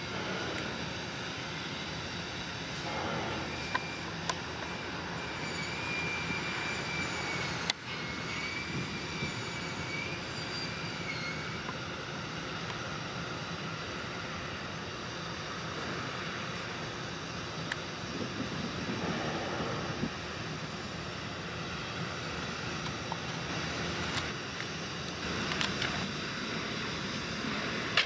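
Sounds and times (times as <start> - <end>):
engine drone: 0.0 - 28.0
faint high whine: 0.0 - 28.0.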